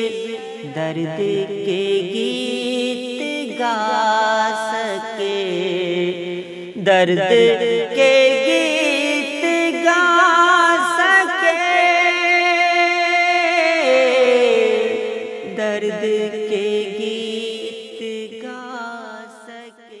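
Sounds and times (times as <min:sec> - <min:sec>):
person singing ornamented phrase: 0:00.0 - 0:20.0.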